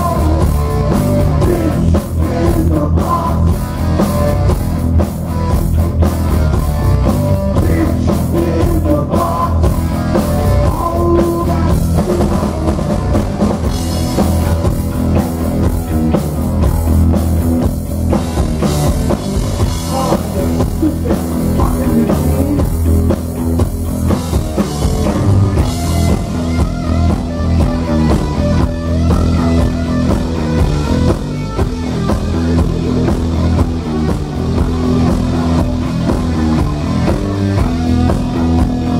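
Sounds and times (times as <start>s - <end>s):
bass guitar: 0.0s - 38.9s
distorted electric guitar: 0.0s - 38.9s
drum kit: 0.0s - 38.9s.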